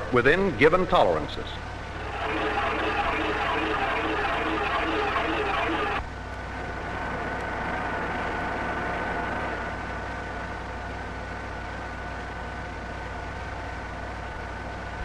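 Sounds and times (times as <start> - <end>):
old film soundtrack hiss: 0.0 - 14.9
machine hum with whine: 1.4 - 15.0.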